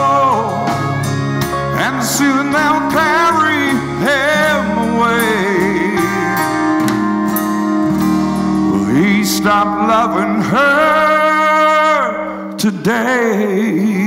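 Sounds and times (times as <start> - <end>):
male lead vocal: 0.0 - 6.8, 8.6 - 14.0
guitar: 0.0 - 14.0
keyboard: 0.0 - 14.0.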